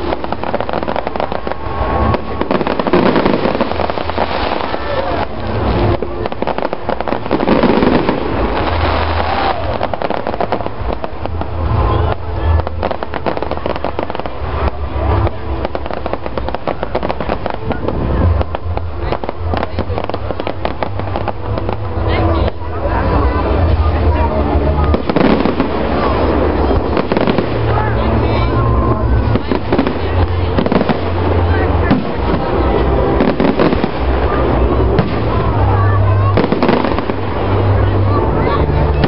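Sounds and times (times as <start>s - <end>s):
fireworks bangs: 0.0s - 39.0s
fireworks crackling and popping: 0.0s - 39.0s
people's voices: 0.0s - 39.0s.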